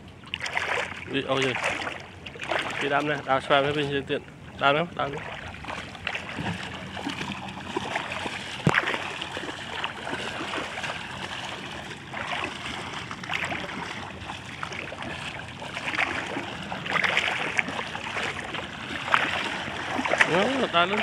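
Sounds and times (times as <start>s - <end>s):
water sloshing around wading legs: 0.0s - 21.0s.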